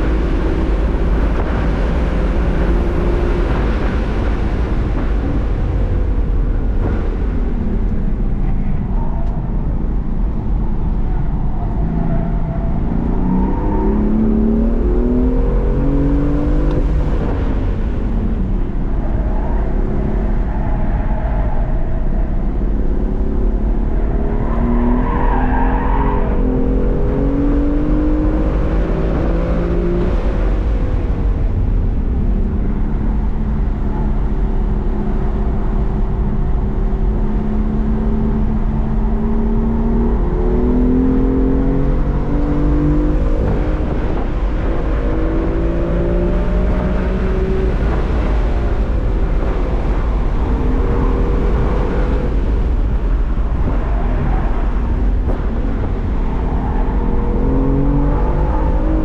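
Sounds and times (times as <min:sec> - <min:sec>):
car engine accelerating and shifting: 0:00.0 - 0:59.0.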